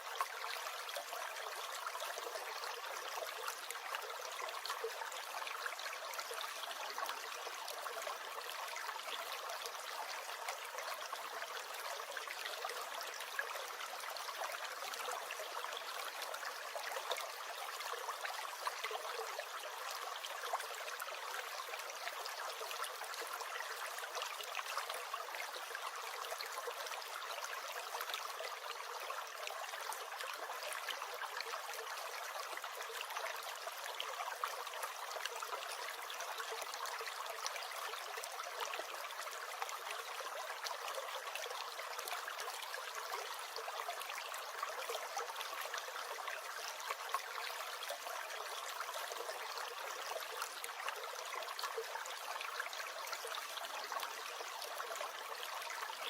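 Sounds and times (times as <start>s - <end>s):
brook gurgling: 0.0s - 56.0s.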